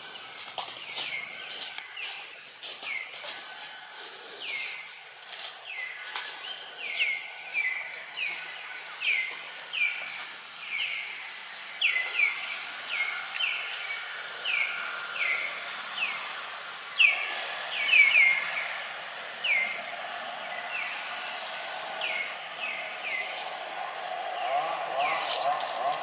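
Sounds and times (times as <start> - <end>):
light outdoor hiss: 0.0 - 26.0.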